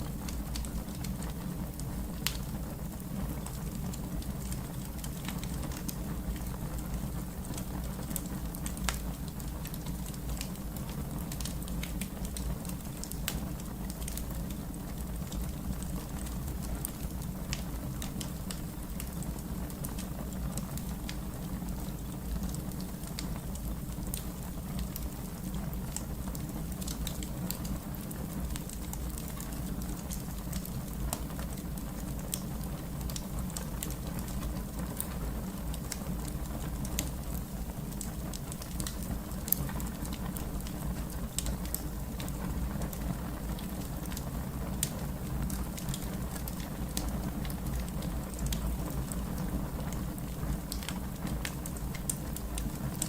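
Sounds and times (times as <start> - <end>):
fire crackling: 0.0 - 53.0
fire snapping and popping: 0.0 - 53.0.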